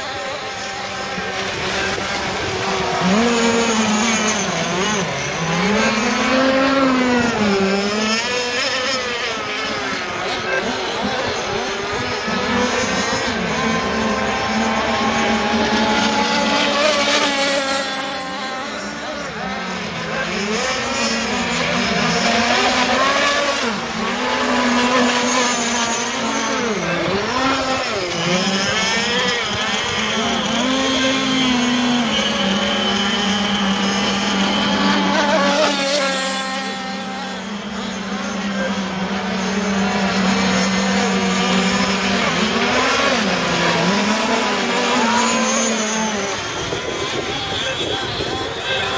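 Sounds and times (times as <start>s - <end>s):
racing boat engines: 0.0s - 48.9s.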